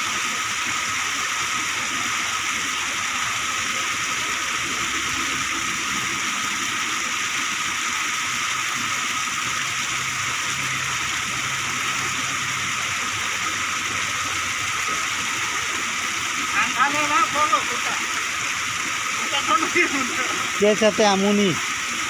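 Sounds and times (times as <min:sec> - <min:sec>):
water gushing into a pool: 0:00.0 - 0:22.0.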